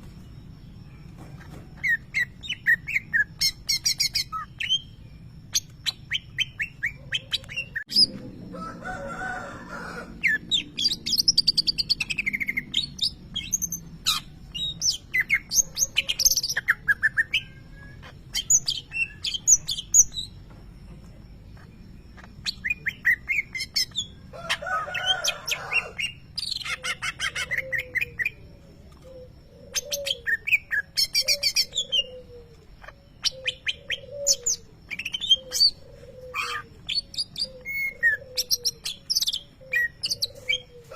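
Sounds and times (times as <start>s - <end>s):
bird singing chirps and trills: 0.0s - 8.5s, 10.0s - 40.9s.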